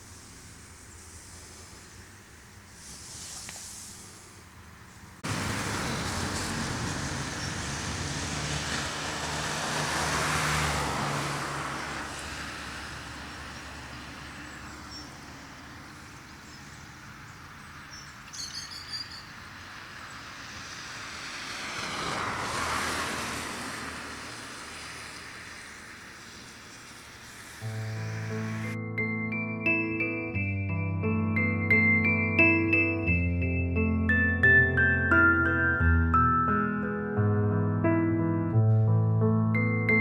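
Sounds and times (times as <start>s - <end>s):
vehicles passing by: 0.0s - 28.8s, 31.3s - 40.0s.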